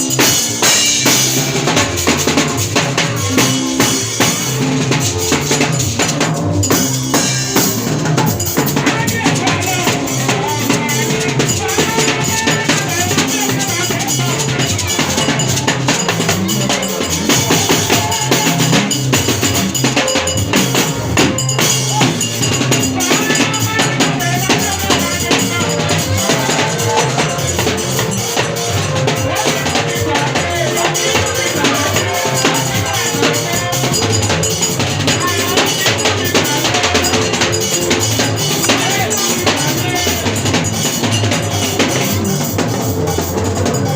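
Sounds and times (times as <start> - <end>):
music with drum kit beat: 0.0 - 43.9.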